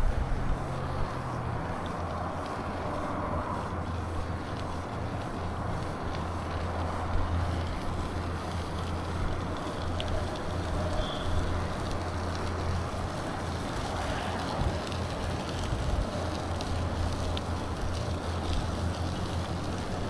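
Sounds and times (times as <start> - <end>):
bicycle tyre and road noise: 0.0 - 20.0
wind rumble on microphone: 0.0 - 20.0
faint ticks: 0.7 - 20.0.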